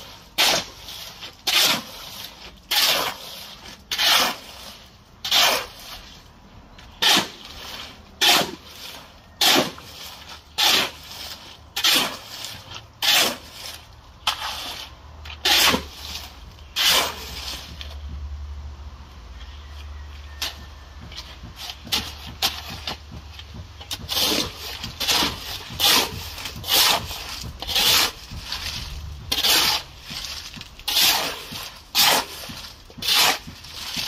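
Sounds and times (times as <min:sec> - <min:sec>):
shovel scraping concrete mix: 0:00.0 - 0:18.1, 0:19.3 - 0:34.0.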